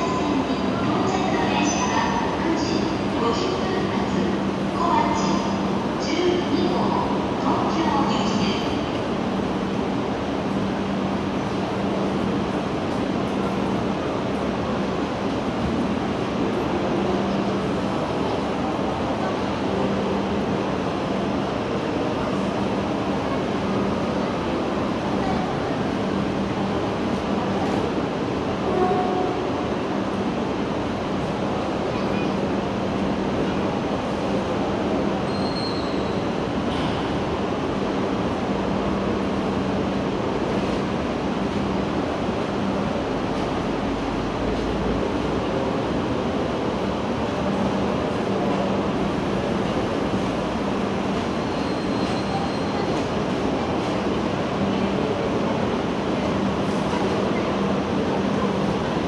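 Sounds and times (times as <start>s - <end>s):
faint voices of passengers: 0.0s - 59.0s
station platform hum and rumble: 0.0s - 59.0s
train running slowly: 0.0s - 59.0s.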